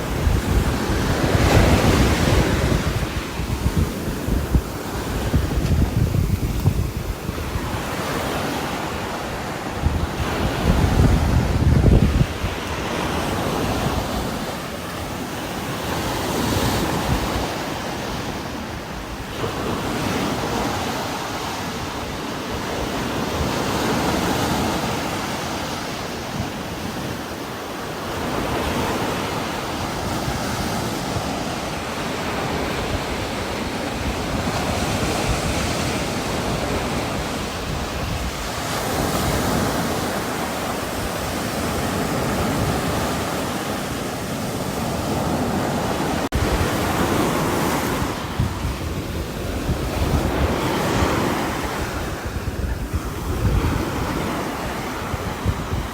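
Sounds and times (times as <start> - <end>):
gusting wind: 0.0 - 55.9.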